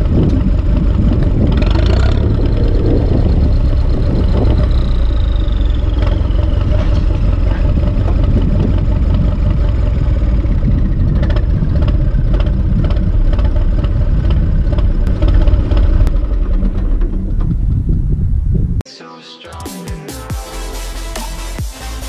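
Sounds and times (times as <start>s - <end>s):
diesel tractor engine running: 0.0s - 18.8s
high engine whine: 0.0s - 18.8s.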